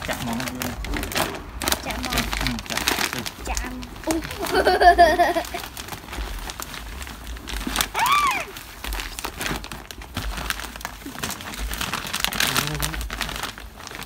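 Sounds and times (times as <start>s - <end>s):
plastic bag crinkling: 0.0s - 14.0s
soil pouring into buckets: 0.0s - 14.0s.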